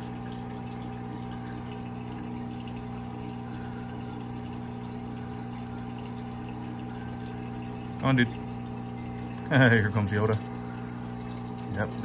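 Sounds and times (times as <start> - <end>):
filter motor hum: 0.0 - 12.0.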